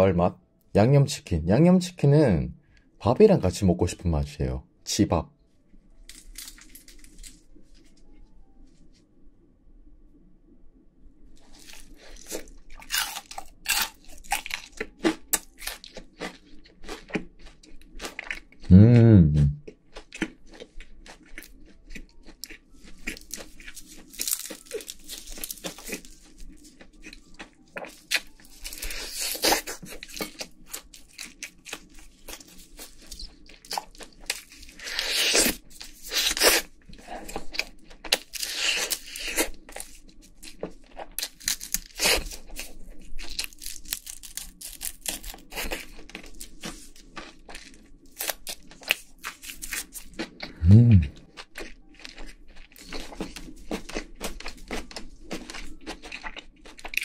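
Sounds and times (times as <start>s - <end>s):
crunchy chewing of fried chicken: 11.4s - 57.0s.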